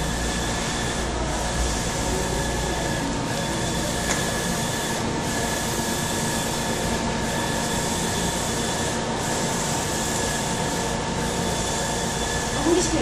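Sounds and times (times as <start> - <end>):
printer carriage whirring: 0.0 - 13.0.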